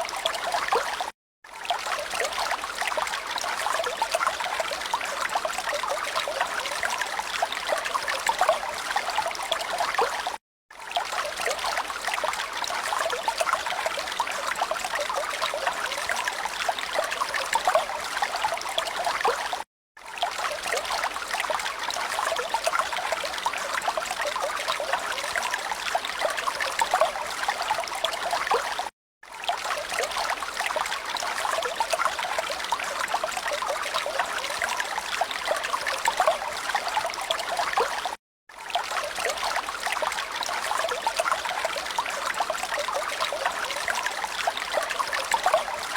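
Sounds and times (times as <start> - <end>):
water trickling and babbling: 0.0 - 45.9.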